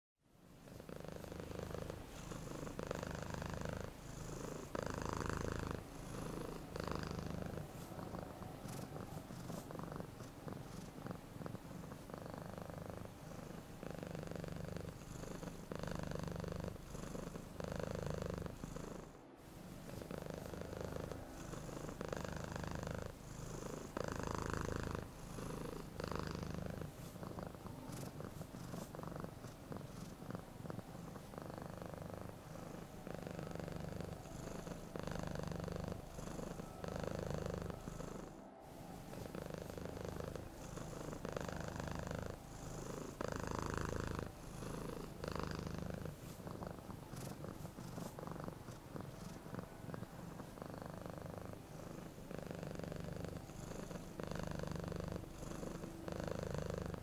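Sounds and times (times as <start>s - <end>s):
cat purring: 0.4s - 57.0s.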